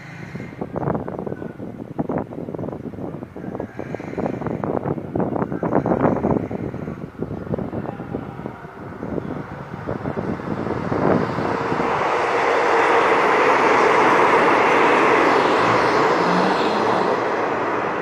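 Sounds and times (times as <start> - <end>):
diesel locomotive engine hum: 0.0 - 18.0
rumble of train coaches: 0.0 - 18.0
wind gusts on microphone: 0.0 - 18.0.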